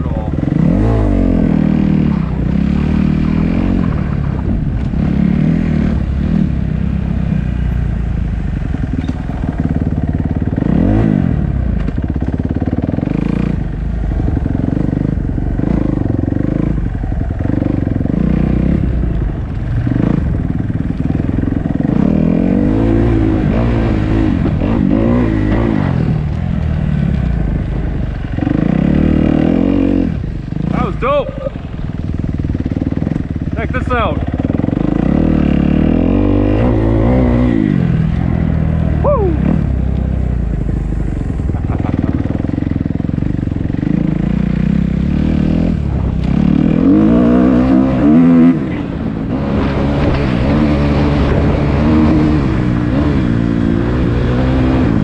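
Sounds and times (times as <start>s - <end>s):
off-road motorcycle engine revving: 0.0s - 55.0s.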